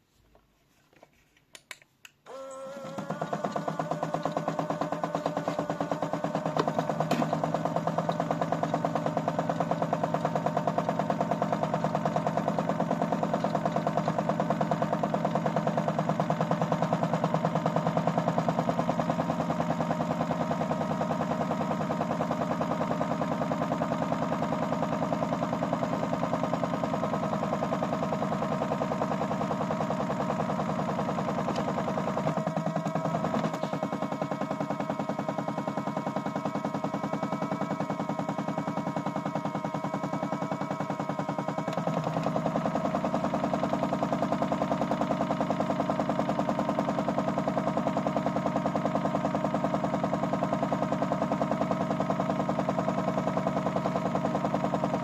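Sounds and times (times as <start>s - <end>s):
toy washing machine motor rattling: 2.3s - 55.0s.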